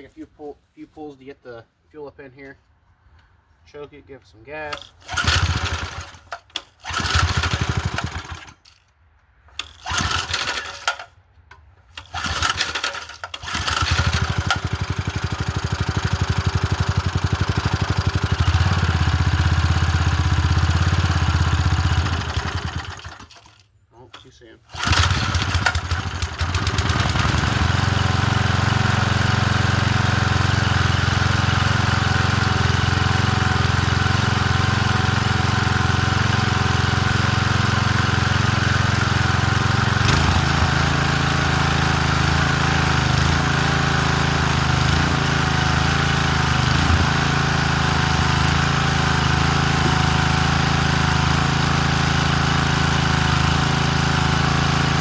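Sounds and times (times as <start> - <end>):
small engine running: 5.0 - 8.6, 9.6 - 10.9, 12.0 - 23.6, 24.7 - 55.0.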